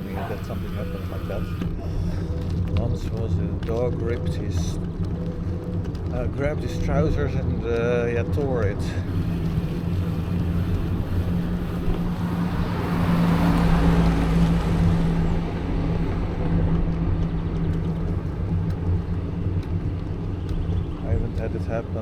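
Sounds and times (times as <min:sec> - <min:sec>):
bicycle road rumble: 0:00.0 - 0:22.0.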